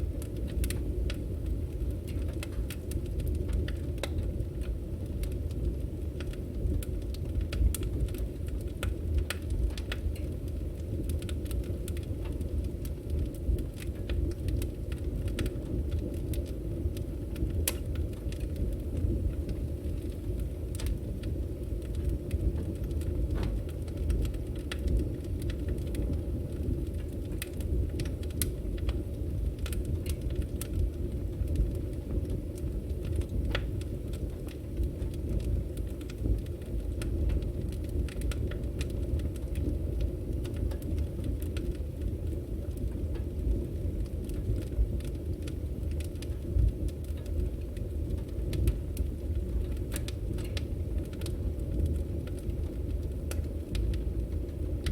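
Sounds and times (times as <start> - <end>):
firewood crackling and popping: 0.0 - 54.9
low rumble of flames: 0.0 - 54.9.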